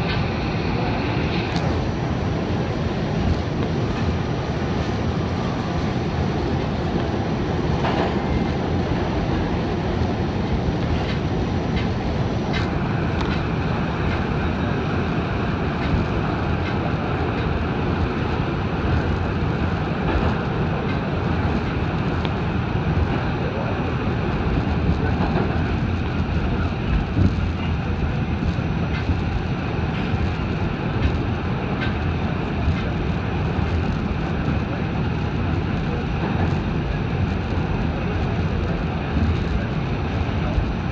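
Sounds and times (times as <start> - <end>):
subway train rumbling in tunnel: 0.0 - 40.9.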